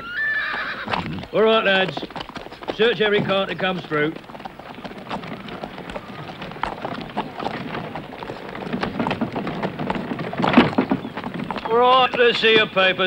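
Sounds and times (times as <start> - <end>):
horse hooves clopping on cobblestones: 0.0 - 13.0
cart wheels rattling over cobblestones: 0.4 - 13.0.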